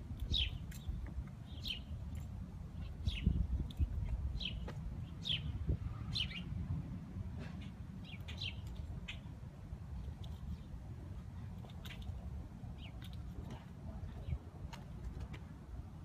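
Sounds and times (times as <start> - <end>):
small birds chirping: 0.2 - 6.6, 7.5 - 9.4, 10.0 - 15.0.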